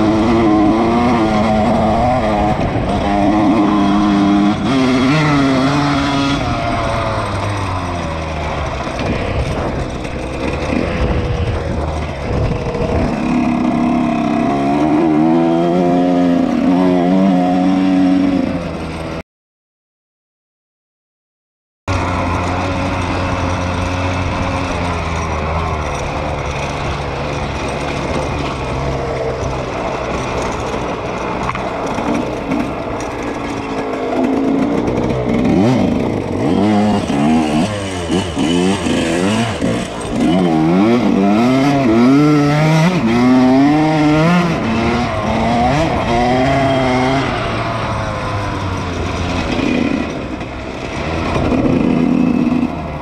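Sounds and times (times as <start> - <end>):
dirt bike engine revving: 0.0 - 19.2, 21.9 - 53.0.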